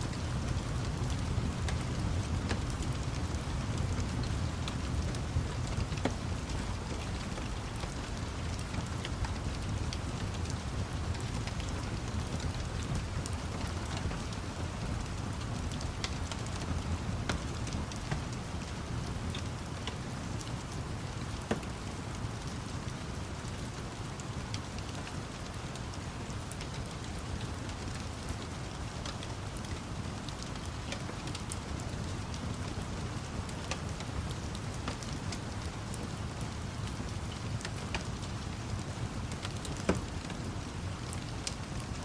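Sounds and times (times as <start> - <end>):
steady rain falling: 0.0 - 42.0
wood fire crackling and popping: 0.0 - 42.0.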